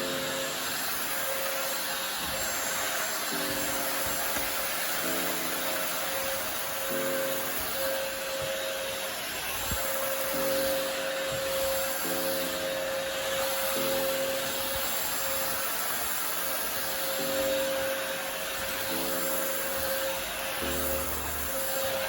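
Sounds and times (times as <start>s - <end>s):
stick vacuum cleaner whining: 0.0s - 22.0s.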